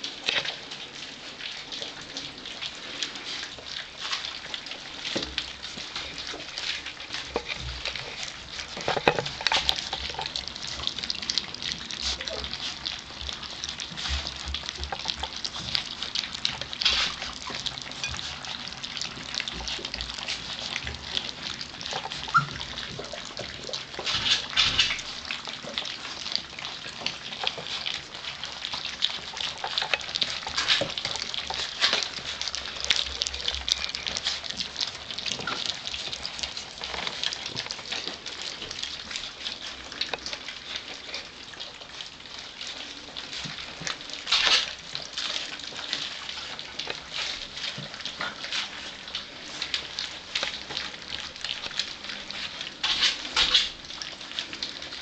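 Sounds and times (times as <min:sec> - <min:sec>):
puppies lapping and smacking: 0:00.0 - 0:55.0.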